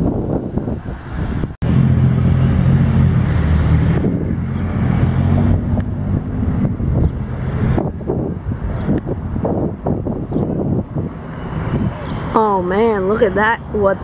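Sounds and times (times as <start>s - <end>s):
motor engine humming: 0.0s - 12.6s
wind buffeting microphone: 0.0s - 14.0s.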